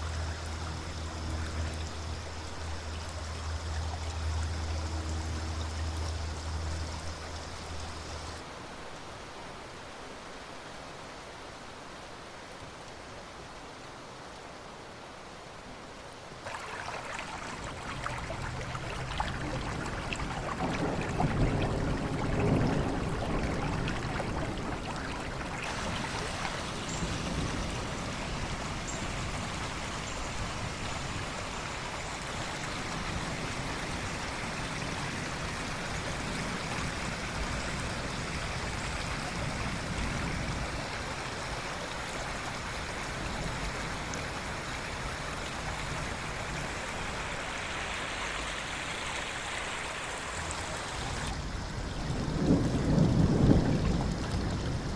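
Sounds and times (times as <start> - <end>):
rain-like hiss: 0.0 - 54.9
river water running: 0.0 - 54.9.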